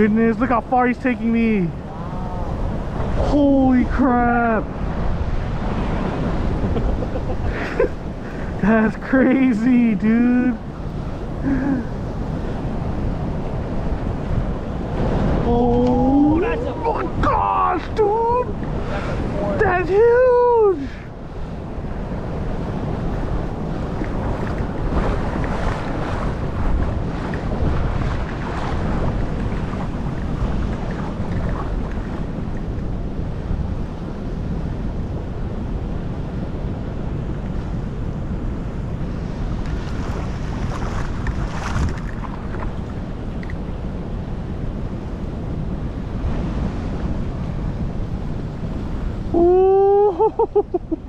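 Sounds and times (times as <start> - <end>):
rushing water: 0.0 - 45.0
wind buffeting microphone: 0.0 - 51.0.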